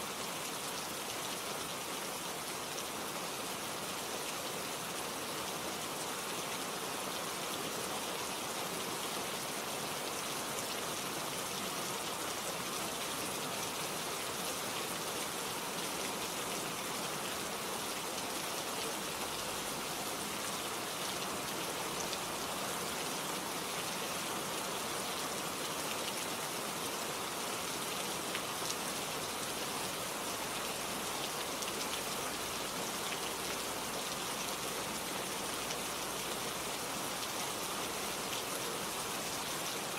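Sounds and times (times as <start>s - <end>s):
steady rain on leaves: 0.0s - 39.9s.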